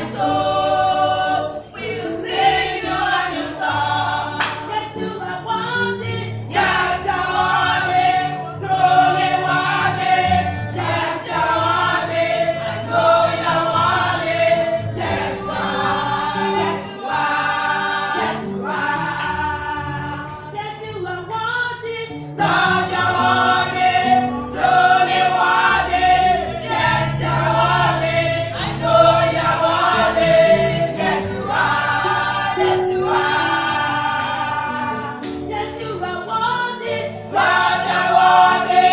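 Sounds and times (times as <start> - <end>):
choir singing gospel: 0.0 - 38.9
low musical accompaniment: 0.0 - 38.9.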